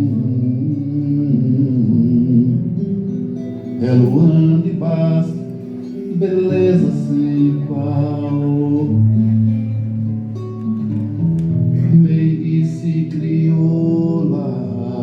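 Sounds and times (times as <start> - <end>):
acoustic guitar: 0.0 - 15.0
man singing: 0.0 - 15.0.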